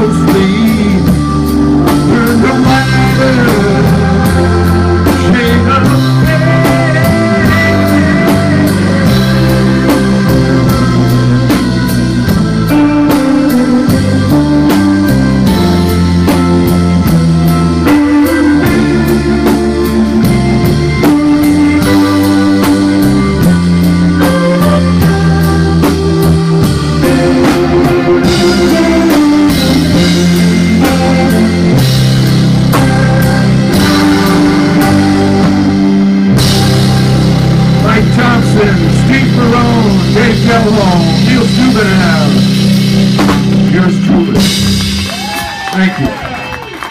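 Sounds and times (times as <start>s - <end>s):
live band playing instrumental: 0.0s - 46.9s
steady drum beat: 0.0s - 46.9s.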